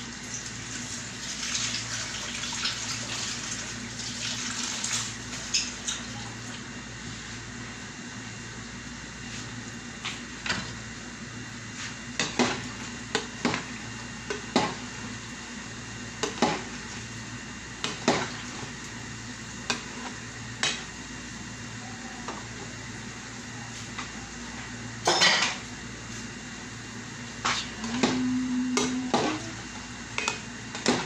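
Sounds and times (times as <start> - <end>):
low hum and hiss: 0.0 - 31.0.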